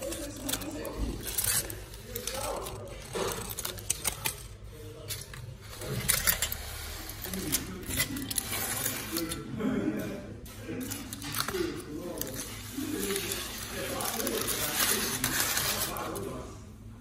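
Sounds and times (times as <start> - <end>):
foil wrappers crinkling: 0.0 - 16.6
background voices: 0.0 - 17.0.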